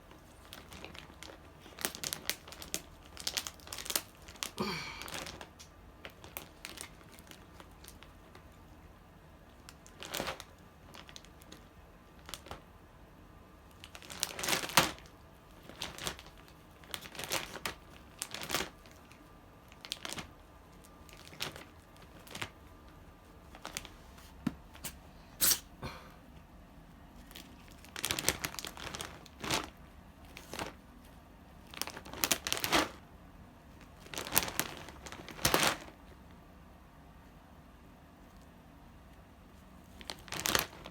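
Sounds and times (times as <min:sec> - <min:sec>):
crinkling and rustling: 0:00.0 - 0:08.7, 0:09.4 - 0:12.7, 0:13.7 - 0:25.6, 0:26.4 - 0:36.4, 0:38.2 - 0:40.9.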